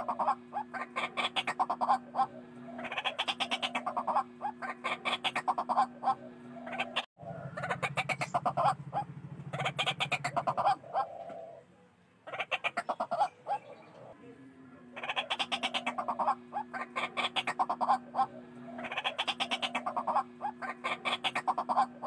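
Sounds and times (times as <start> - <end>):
bird calling rapid harsh notes: 0.0 - 11.4, 12.3 - 14.1, 14.8 - 22.0.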